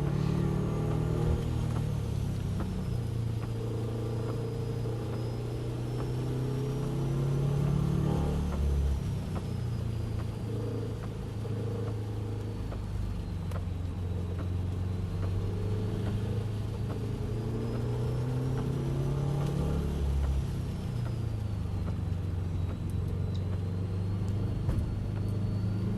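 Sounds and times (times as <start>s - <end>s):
car engine running at speed: 0.0s - 25.9s
road and spray noise: 0.0s - 25.9s
light ticks: 1.3s - 7.0s, 8.4s - 25.9s.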